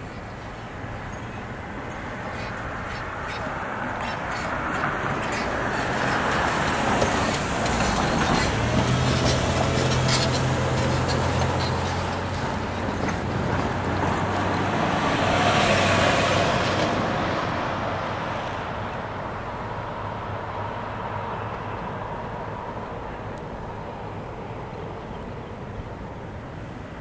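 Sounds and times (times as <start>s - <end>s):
tyre and road noise: 0.0s - 27.0s
vehicle engine hum passing: 0.1s - 27.0s.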